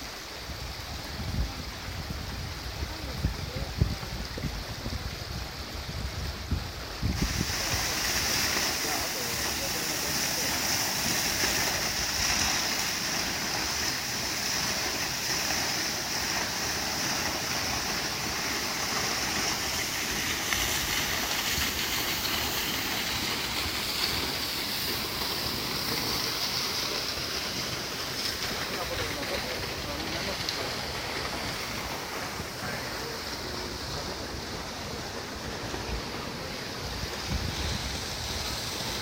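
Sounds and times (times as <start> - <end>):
waterfall splashing into pool: 6.5 - 39.0.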